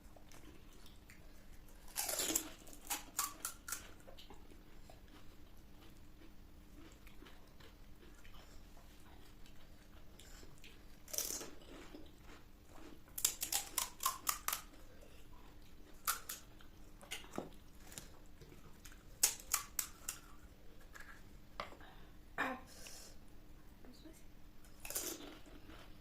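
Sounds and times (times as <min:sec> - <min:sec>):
crunchy chewing of snacks: 0:00.0 - 0:21.3, 0:24.7 - 0:26.0.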